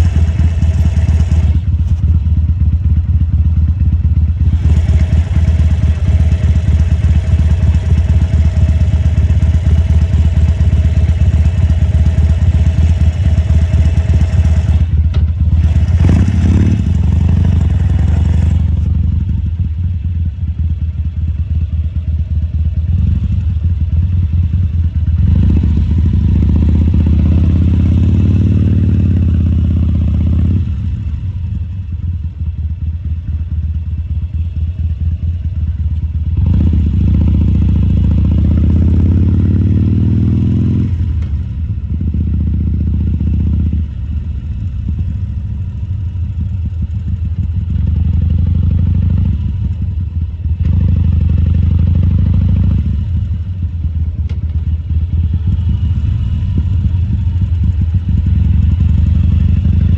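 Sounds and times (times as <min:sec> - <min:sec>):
motorcycle engine revving: 0:00.0 - 0:20.4, 0:21.7 - 0:31.9, 0:32.7 - 0:59.9.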